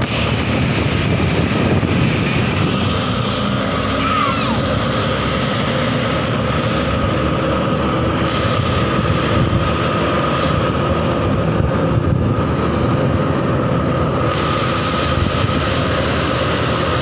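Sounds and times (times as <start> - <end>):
bus engine running: 0.0 - 17.0
steady high whine: 0.0 - 17.0.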